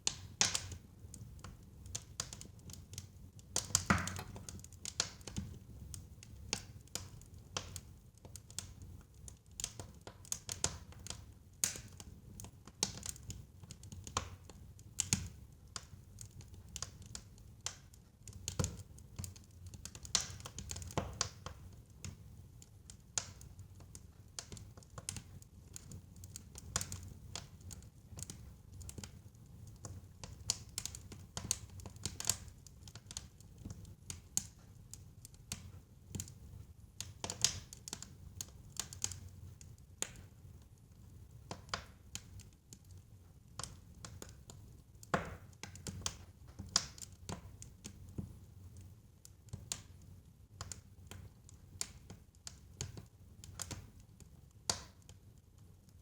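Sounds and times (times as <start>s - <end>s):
low rumble of burning logs: 0.0s - 56.0s
wood fire crackling: 0.0s - 56.0s.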